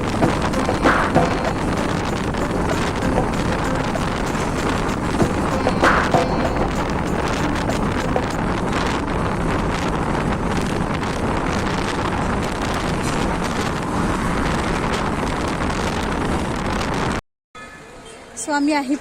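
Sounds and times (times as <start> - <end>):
road noise: 0.0 - 17.2
wind rushing over microphone: 0.0 - 17.2.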